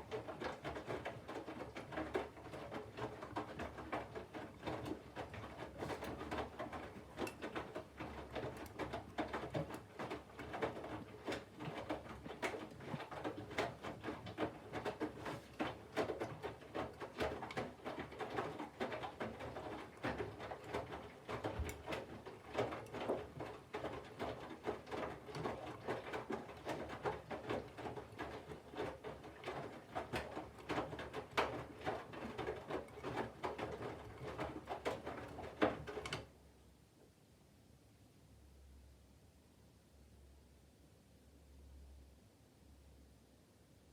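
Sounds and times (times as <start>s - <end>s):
washing machine laundry sloshing: 0.0s - 36.1s.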